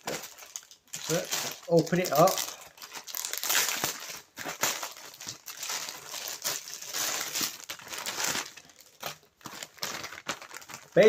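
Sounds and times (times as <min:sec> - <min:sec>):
parcel packaging crinkling: 0:00.0 - 0:11.0.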